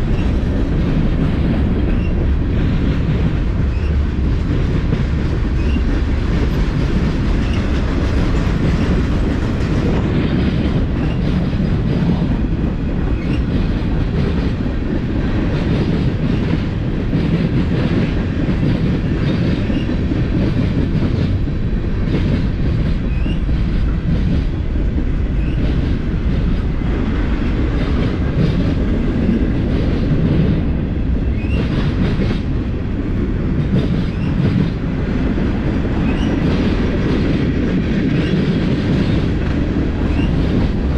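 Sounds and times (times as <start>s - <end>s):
freight train cars rolling: 0.0s - 40.9s
wheels clicking over rail joints: 0.0s - 40.9s.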